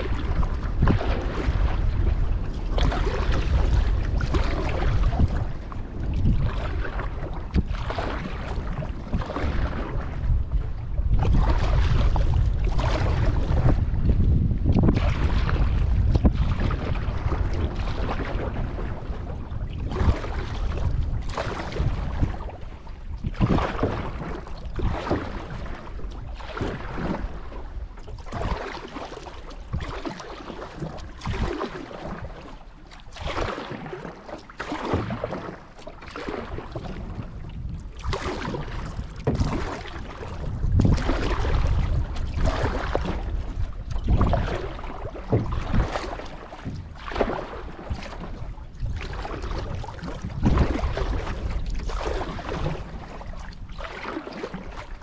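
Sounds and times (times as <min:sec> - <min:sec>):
canoe paddle strokes in water: 0:00.0 - 0:55.0.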